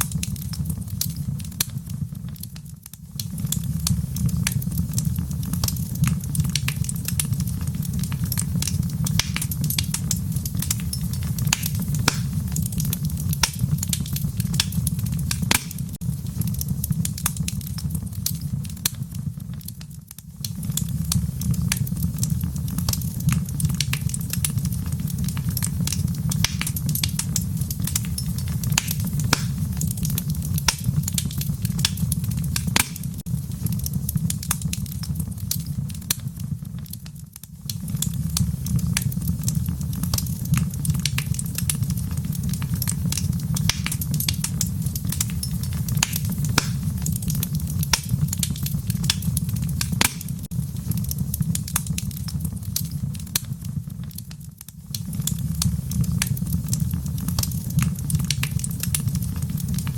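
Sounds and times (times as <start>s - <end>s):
fire popping and snapping: 0.0s - 59.9s
low fire rumble: 0.0s - 59.9s.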